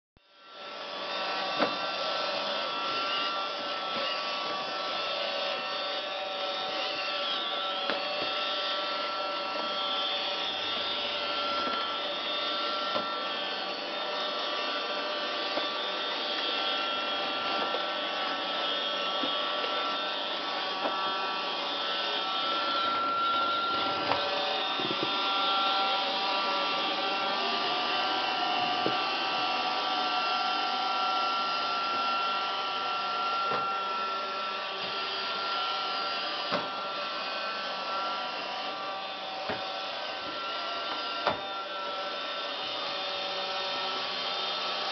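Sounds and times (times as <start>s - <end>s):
robot vacuum whine: 0.2s - 44.9s.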